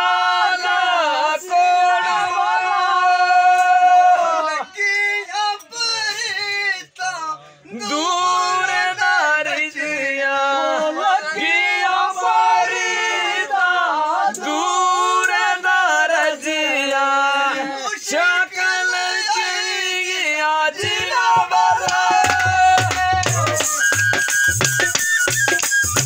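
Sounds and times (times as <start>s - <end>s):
person singing folk song: 0.0s - 23.9s.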